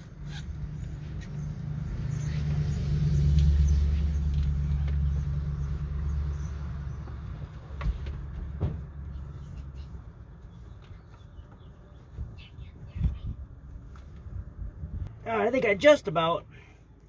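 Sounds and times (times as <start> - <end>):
passing vehicle engine rumble: 0.0 - 15.6.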